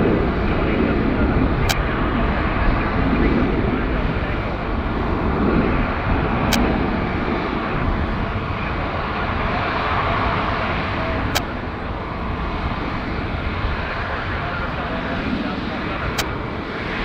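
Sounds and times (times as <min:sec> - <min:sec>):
jet engines at taxi power: 0:00.0 - 0:17.0.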